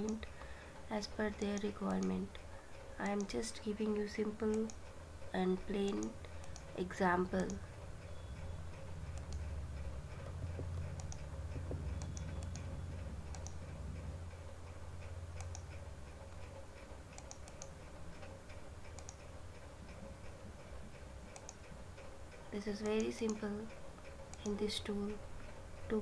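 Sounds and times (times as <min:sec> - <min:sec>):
computer mouse clicks: 0:00.0 - 0:00.6, 0:01.3 - 0:04.9, 0:05.6 - 0:14.4, 0:15.0 - 0:25.1
faint steady ticking: 0:00.0 - 0:26.0
low hum: 0:00.0 - 0:26.0.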